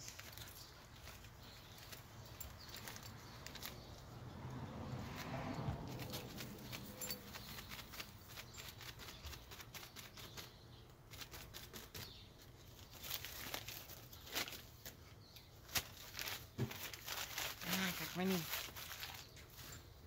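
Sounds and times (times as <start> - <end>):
crumpled paper crinkling: 0.0 - 3.8, 5.9 - 20.0.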